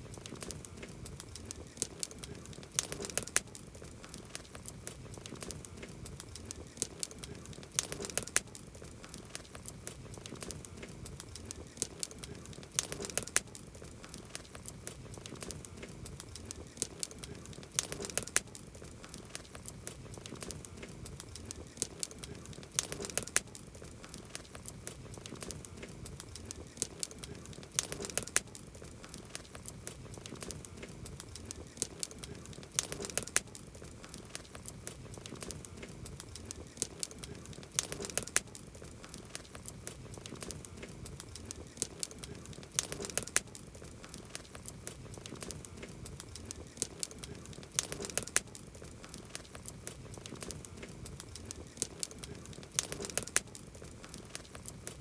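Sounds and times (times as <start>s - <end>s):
campfire crackling: 0.0s - 55.0s
loud snaps of fire: 0.0s - 55.0s.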